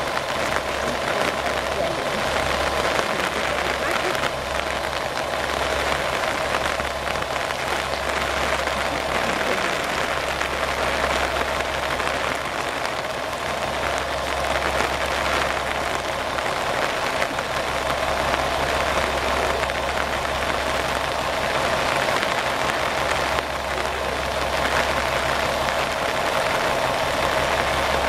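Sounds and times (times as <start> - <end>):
diesel railcar engine idling: 0.0 - 28.0
steady rain: 0.0 - 28.0.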